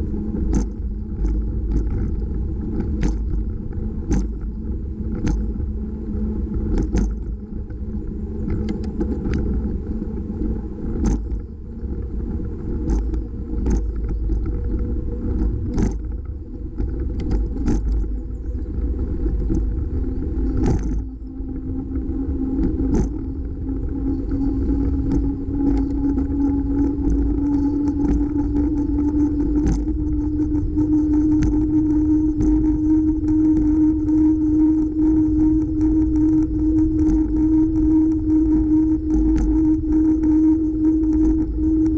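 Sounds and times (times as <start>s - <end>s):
bicycle road rumble: 0.0s - 41.9s
low hum rising in pitch: 0.0s - 41.9s
wind: 0.0s - 41.9s.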